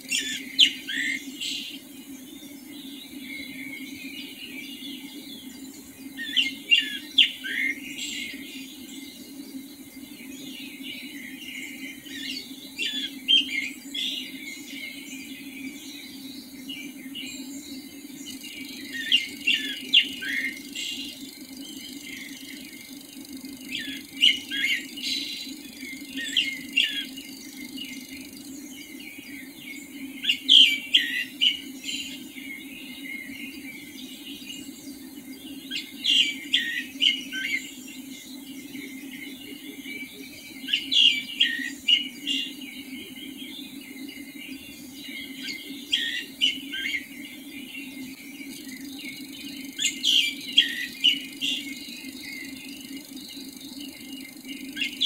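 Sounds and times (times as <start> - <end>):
bird singing: 0.0 - 55.0
steady low hum: 0.0 - 55.0.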